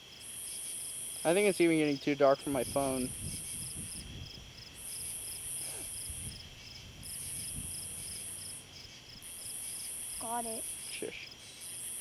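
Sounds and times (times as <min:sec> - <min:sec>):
crickets chirping: 0:00.0 - 0:12.0
steady high insect trill: 0:00.0 - 0:12.0
higher buzzing insect trill: 0:00.1 - 0:12.0.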